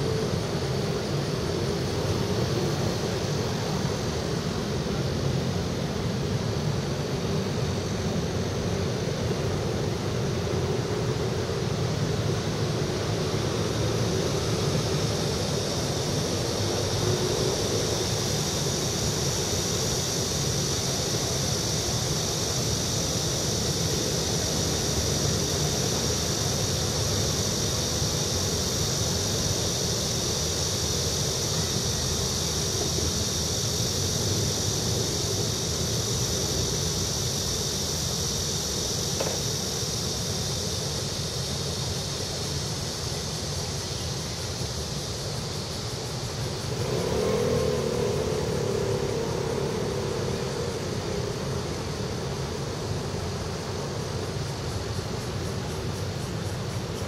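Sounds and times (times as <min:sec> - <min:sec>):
road traffic drone: 0:00.0 - 0:57.0.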